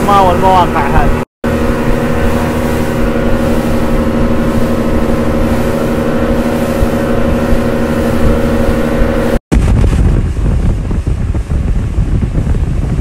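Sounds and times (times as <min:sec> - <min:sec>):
motorboat engine running: 0:00.0 - 0:13.0
water and waves: 0:00.0 - 0:13.0
wind: 0:00.0 - 0:13.0.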